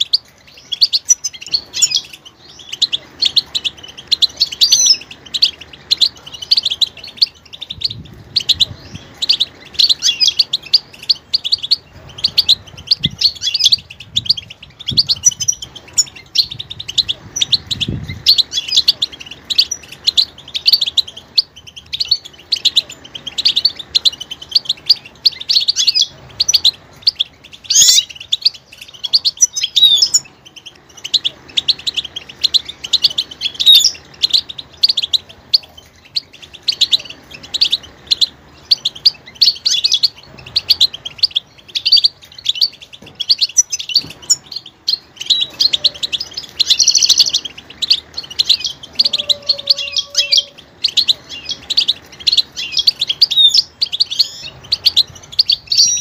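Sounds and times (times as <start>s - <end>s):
finch twittering song: 0.0s - 56.0s.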